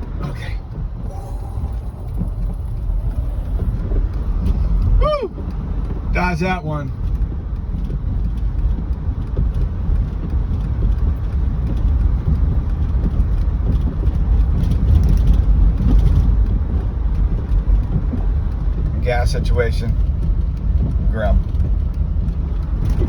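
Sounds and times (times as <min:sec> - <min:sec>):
car tyres and engine rumble: 0:00.0 - 0:23.0.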